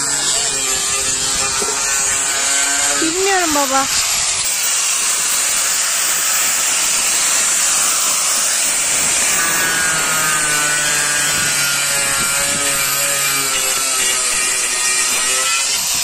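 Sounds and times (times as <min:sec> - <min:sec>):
grinder motor whine: 0:00.0 - 0:16.0
wire wheel grinder scrubbing metal: 0:00.0 - 0:16.0.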